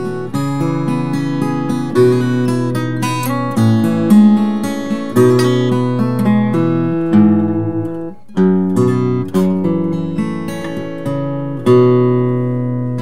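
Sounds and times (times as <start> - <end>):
fingerstyle acoustic guitar: 0.0 - 13.0.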